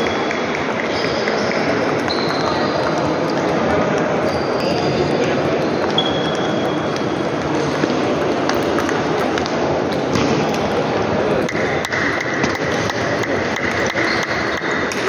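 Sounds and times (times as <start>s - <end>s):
table tennis ball clicking: 0.0s - 4.9s, 5.8s - 10.8s, 11.4s - 15.0s
murmur of sports hall crowd: 0.0s - 15.0s.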